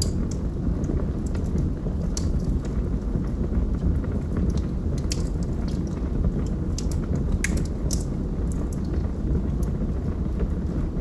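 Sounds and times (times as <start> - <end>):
logs crackling and popping: 0.0 - 10.8
fire flames rumbling: 0.0 - 11.0.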